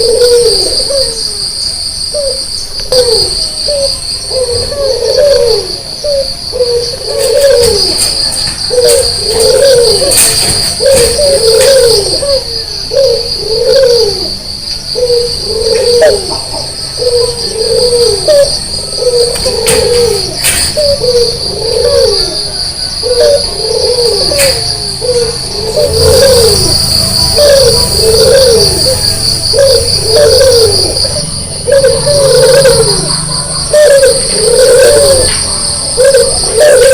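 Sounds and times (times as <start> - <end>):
crickets trilling: 0.0 - 36.9
dove cooing: 0.0 - 36.9.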